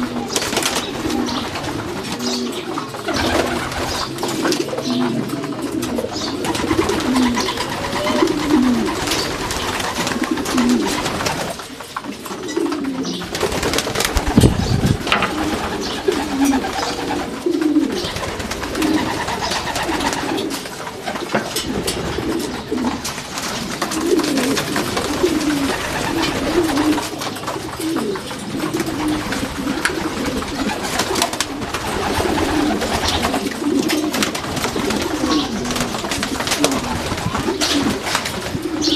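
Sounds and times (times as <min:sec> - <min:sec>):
pigeons cooing: 0:00.0 - 0:38.9
wings flapping: 0:00.0 - 0:38.9.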